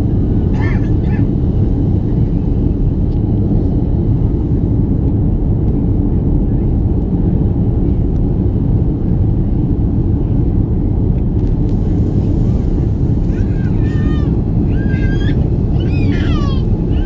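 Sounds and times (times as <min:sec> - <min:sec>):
airliner engines and airflow rumble: 0:00.0 - 0:17.0.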